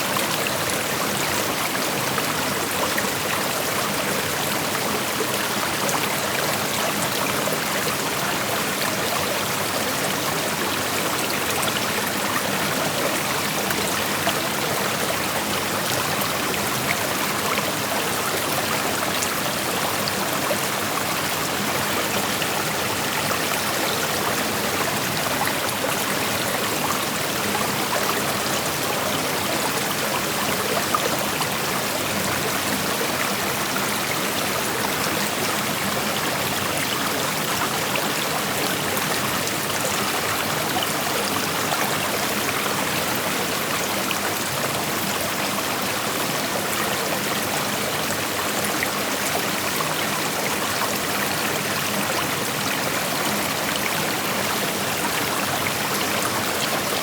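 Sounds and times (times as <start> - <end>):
creek water babbling over rocks: 0.0 - 57.0.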